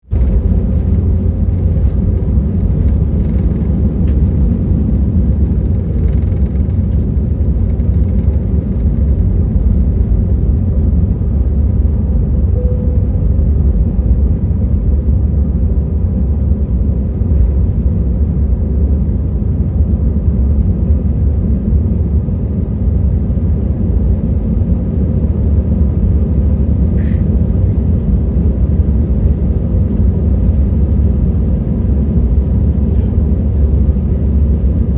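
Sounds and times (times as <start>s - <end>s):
airliner low rumble: 0.0s - 34.9s.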